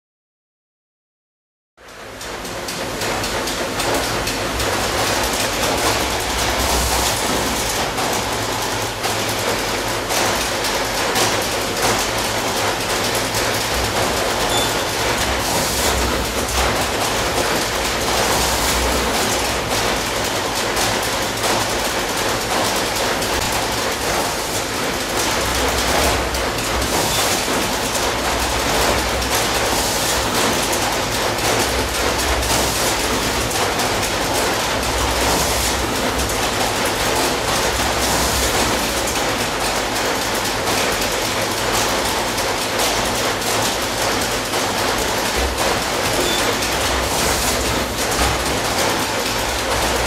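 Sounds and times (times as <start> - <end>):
paper machinery clattering: 1.8 - 50.0.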